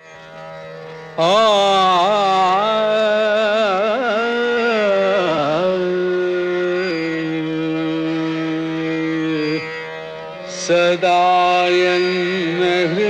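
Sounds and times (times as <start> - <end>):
man singing devotional song: 1.2 - 9.8, 10.5 - 13.0.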